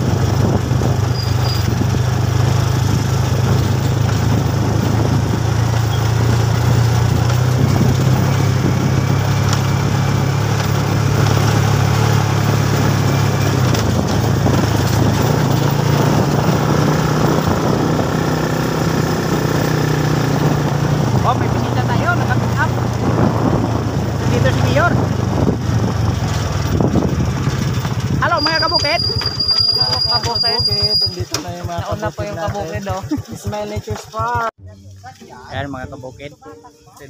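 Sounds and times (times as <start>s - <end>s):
motorcycle engine running: 0.0s - 36.5s.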